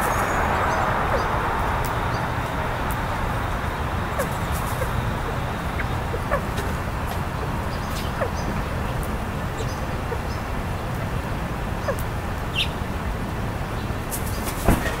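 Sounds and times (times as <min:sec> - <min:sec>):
low background rumble: 0:00.0 - 0:14.1.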